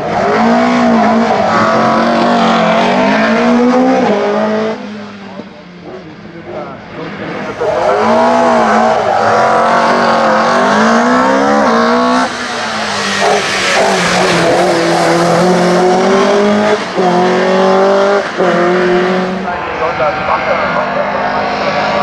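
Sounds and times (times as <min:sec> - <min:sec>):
race car engine revving hard: 0:00.0 - 0:22.0.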